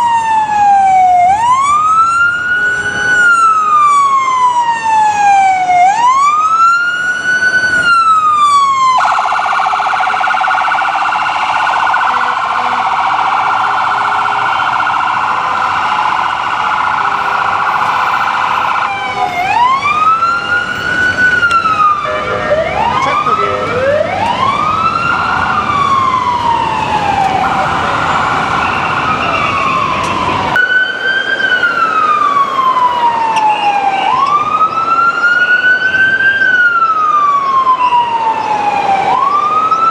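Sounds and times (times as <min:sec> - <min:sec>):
ambulance siren wailing: 0:00.0 - 0:39.9
rapid steady siren tone: 0:00.0 - 0:39.9.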